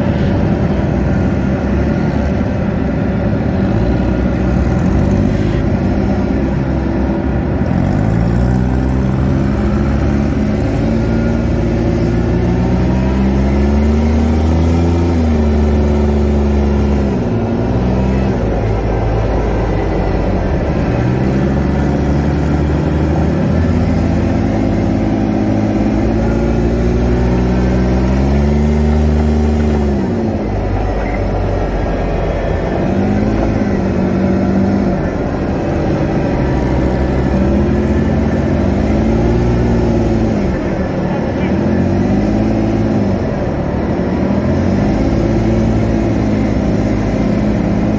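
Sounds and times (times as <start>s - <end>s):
off-road buggy engine: 0.0s - 47.9s.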